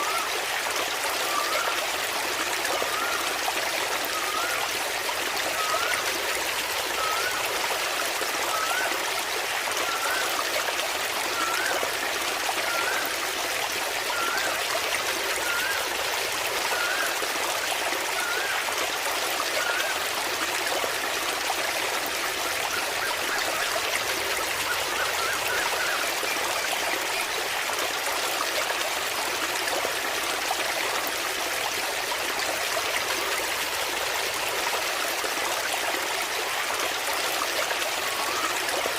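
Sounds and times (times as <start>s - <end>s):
waterfall running: 0.0s - 38.9s.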